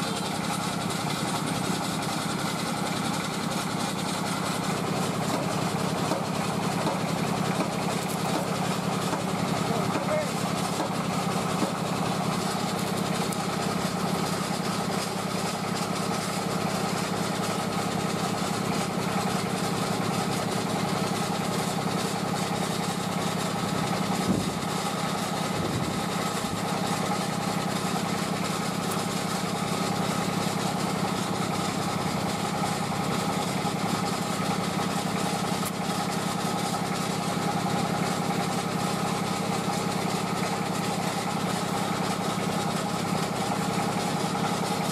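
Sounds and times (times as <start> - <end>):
machine engine running: 0.0 - 44.9.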